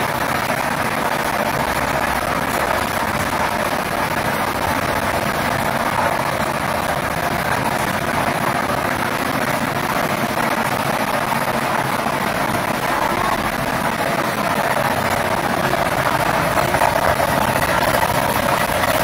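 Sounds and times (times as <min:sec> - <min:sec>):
rushing blower noise: 0:00.0 - 0:19.0.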